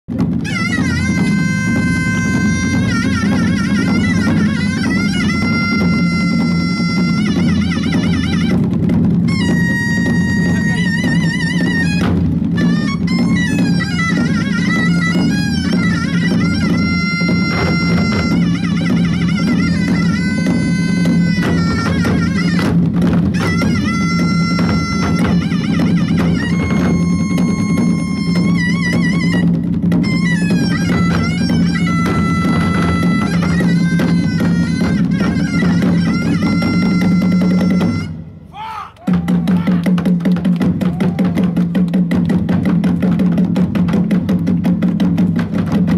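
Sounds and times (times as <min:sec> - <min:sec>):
drums: 0:00.0 - 0:45.9
wavering wind instrument melody: 0:00.2 - 0:39.9.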